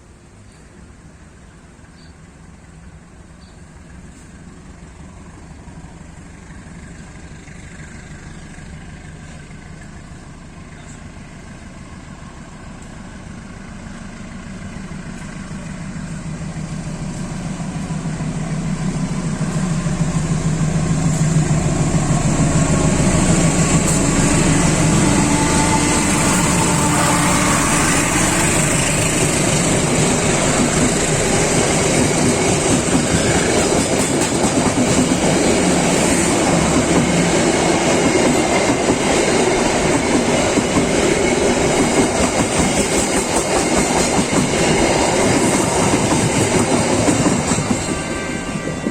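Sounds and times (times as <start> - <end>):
train passing on track: 0.0 - 48.9.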